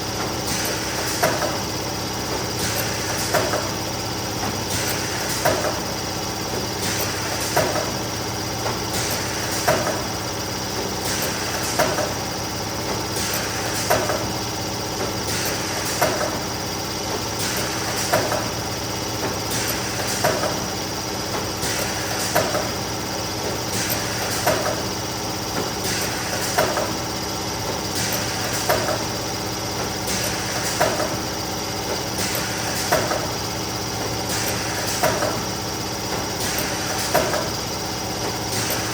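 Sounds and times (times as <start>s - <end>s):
laminating machine motor hum: 0.0s - 38.9s
laminator clacking: 0.2s - 38.9s.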